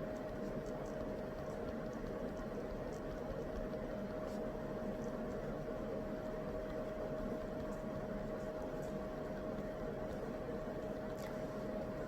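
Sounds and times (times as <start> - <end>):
appliance hum and hiss: 0.0 - 12.0.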